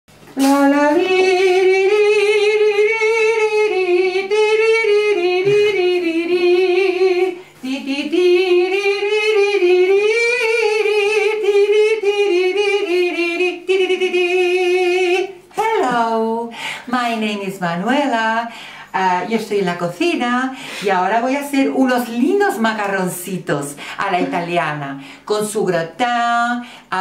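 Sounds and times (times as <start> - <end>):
woman singing with vibrato: 0.2 - 27.0.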